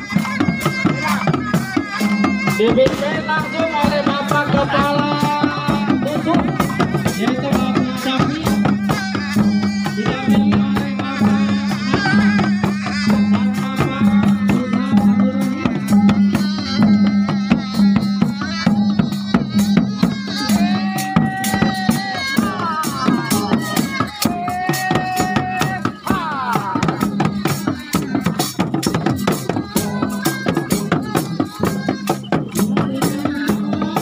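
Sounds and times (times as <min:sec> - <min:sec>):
fast drum and percussion strokes: 0:00.0 - 0:34.0
wavering held melody: 0:00.0 - 0:34.0.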